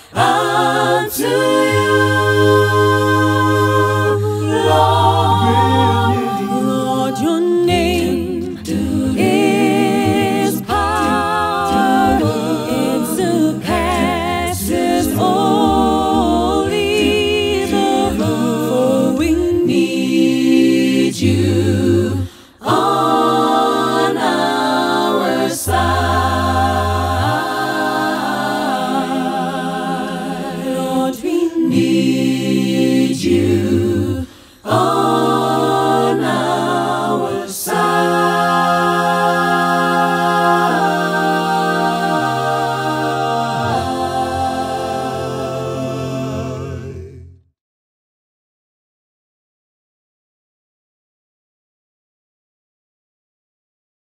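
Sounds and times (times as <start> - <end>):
a cappella group singing: 0.0 - 47.5.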